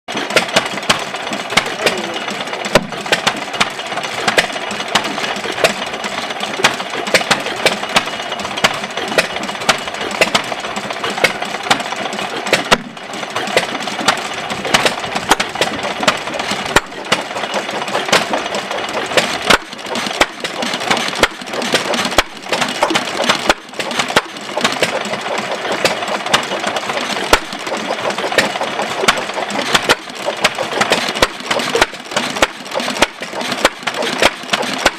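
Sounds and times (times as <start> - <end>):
steady mechanical clatter: 0.1 - 34.9.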